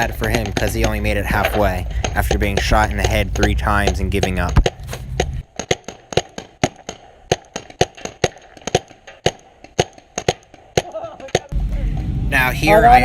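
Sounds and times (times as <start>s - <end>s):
paintball markers firing: 0.0s - 11.5s.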